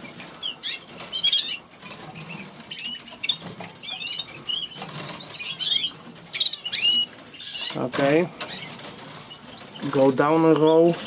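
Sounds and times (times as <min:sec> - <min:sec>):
canaries chirping: 0:00.0 - 0:11.0
wings fluttering in cages: 0:00.0 - 0:11.0.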